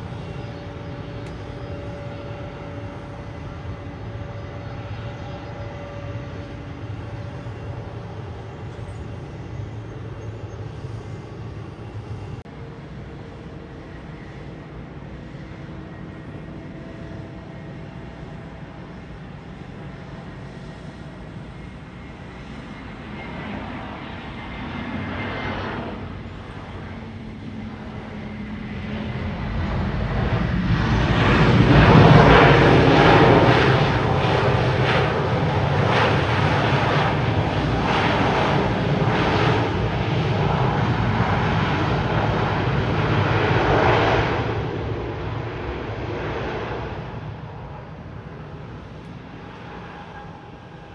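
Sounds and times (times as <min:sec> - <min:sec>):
airliner jet engines rumbling: 0:00.0 - 0:50.9.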